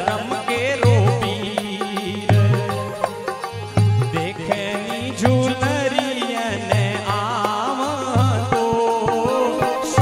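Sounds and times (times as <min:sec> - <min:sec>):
hand drum beating: 0:00.0 - 0:10.0
ornamented melody line: 0:00.0 - 0:10.0.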